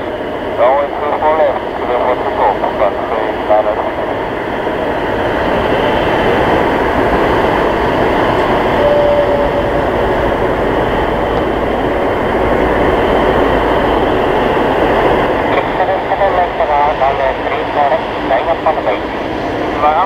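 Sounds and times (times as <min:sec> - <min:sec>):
faint whine: 0:00.0 - 0:20.0
jet engine rumble and hiss: 0:00.0 - 0:20.0.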